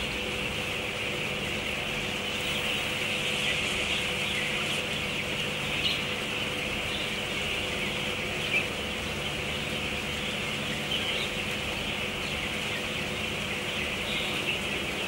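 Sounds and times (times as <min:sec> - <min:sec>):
chick peeps: 0:00.0 - 0:15.0
chickens chattering: 0:00.0 - 0:15.0
steady low hum: 0:00.0 - 0:15.0.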